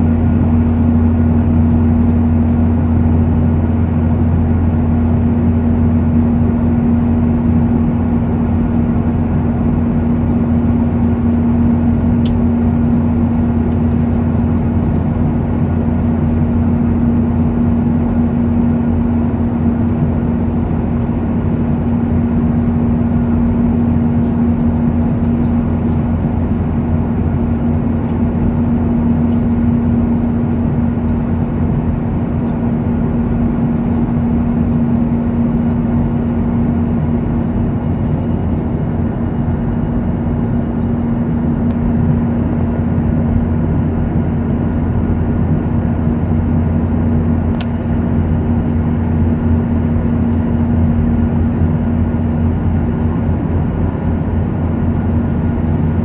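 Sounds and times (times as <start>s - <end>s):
airliner cabin engine drone: 0.0s - 56.0s
constant low hum: 0.0s - 56.0s.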